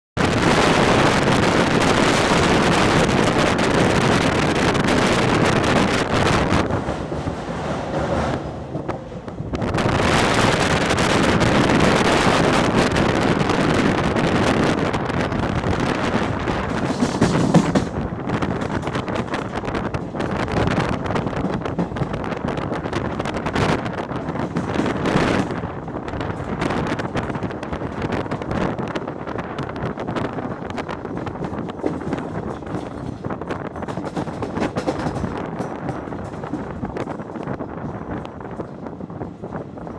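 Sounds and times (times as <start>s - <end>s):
train wheels rushing on rails: 0.2s - 39.9s
wind buffeting microphone: 0.2s - 39.9s.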